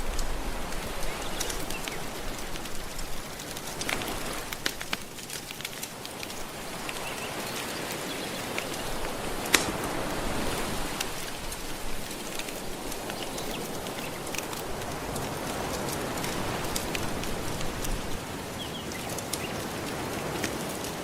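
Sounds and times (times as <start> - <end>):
ocean waves washing on shore: 0.0 - 21.0
wood fire crackling and popping: 0.0 - 21.0.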